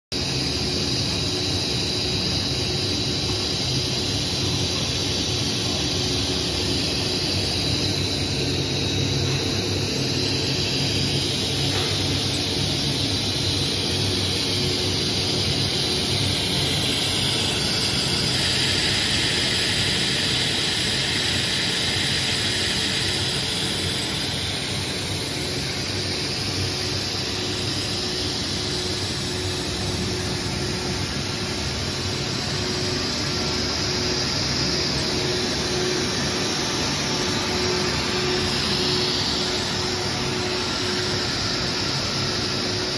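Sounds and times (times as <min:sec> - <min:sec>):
machine hum with high hiss: 0:00.1 - 0:42.9.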